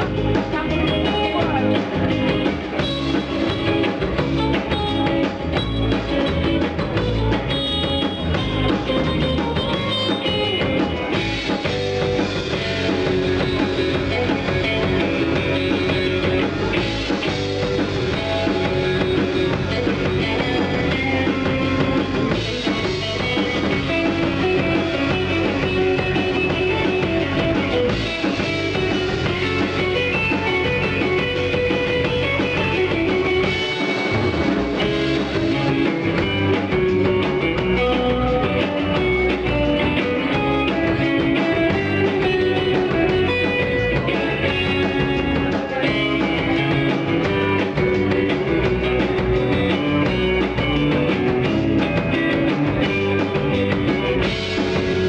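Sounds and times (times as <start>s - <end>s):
surf rock band playing: 0.0s - 55.0s.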